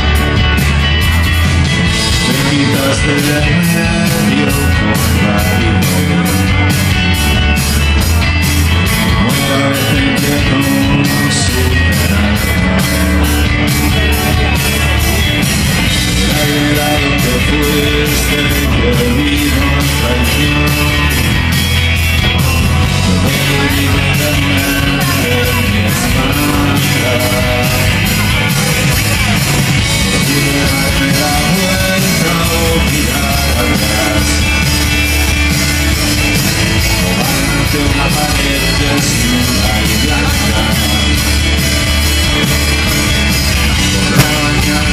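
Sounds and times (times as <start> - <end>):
rock band playing: 0.0 - 44.9
man singing: 1.4 - 44.9.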